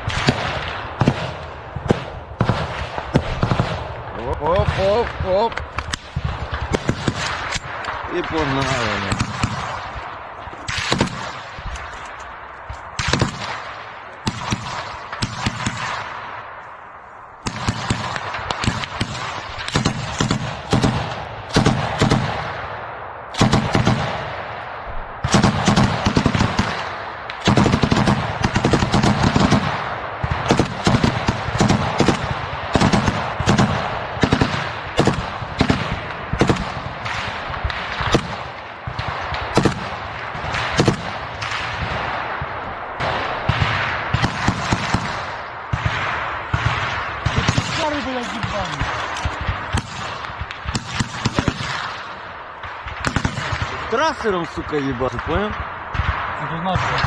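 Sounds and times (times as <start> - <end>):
automatic gunfire echoing: 0.0 - 54.5.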